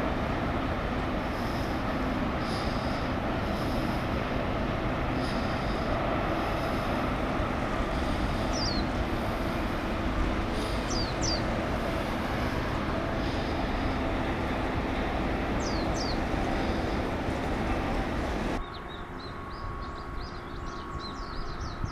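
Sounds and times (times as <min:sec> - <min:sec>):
distant harbour machinery rumble: 0:00.0 - 0:21.9.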